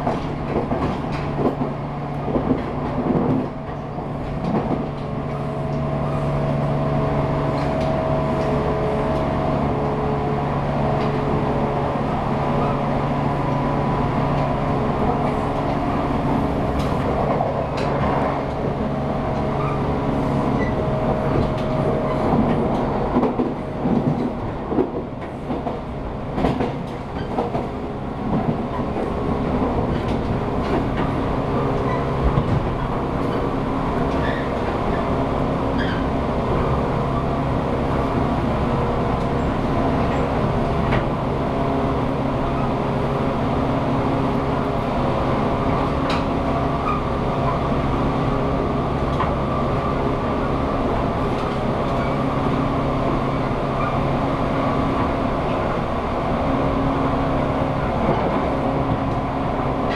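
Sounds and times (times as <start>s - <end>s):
train car rumble: 0.0s - 59.9s.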